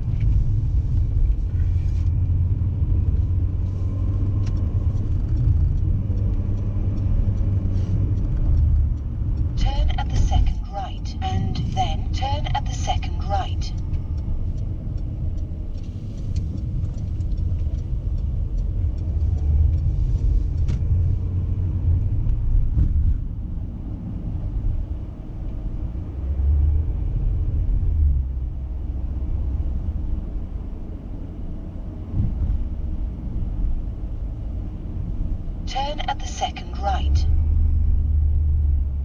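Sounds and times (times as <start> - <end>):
car engine rumble: 0.0 - 39.0
tyres on road: 0.0 - 39.0.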